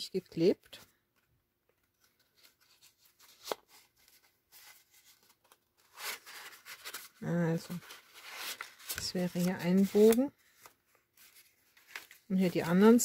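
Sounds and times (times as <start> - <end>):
paper rustling and crinkling: 0.6 - 13.0.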